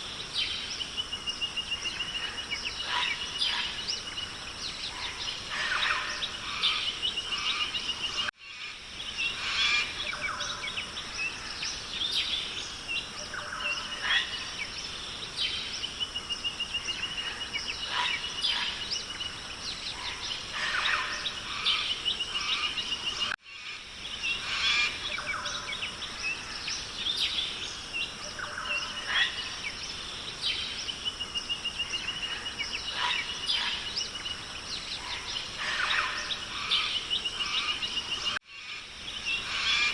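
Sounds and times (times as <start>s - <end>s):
birds chirping and calling: 0.0s - 39.9s
constant high hiss: 0.0s - 39.9s.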